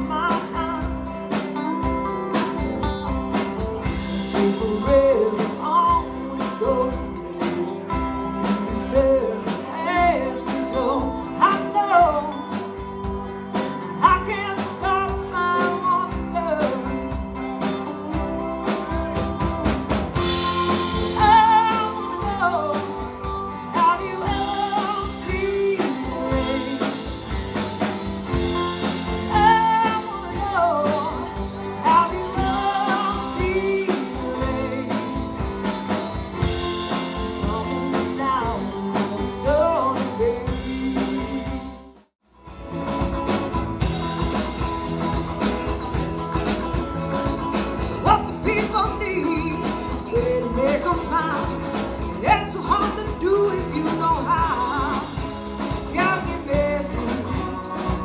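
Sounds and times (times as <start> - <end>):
country-rock band playing: 0.0 - 58.0
lead vocal singing: 3.8 - 41.9, 48.0 - 58.0.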